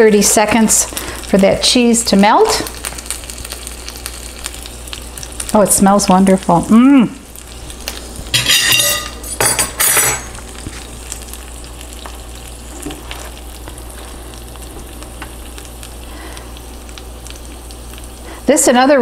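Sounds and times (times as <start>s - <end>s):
quesadilla sizzling in a frying pan: 0.0s - 19.0s.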